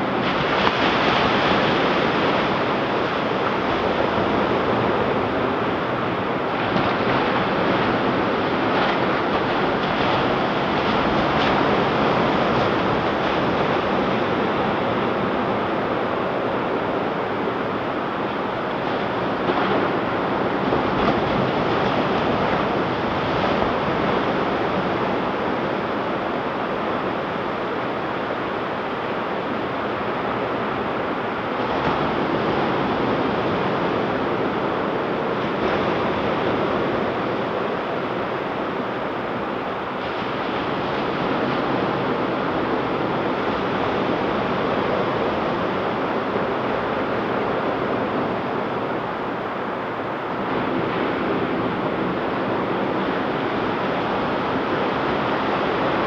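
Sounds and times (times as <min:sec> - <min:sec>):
ocean surf breaking: 0:00.0 - 0:56.0
wind on microphone: 0:00.0 - 0:56.0.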